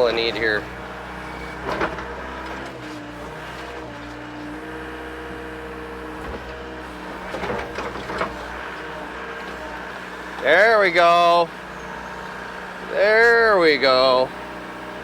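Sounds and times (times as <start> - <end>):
excavator diesel engine straining: 0.0 - 15.0.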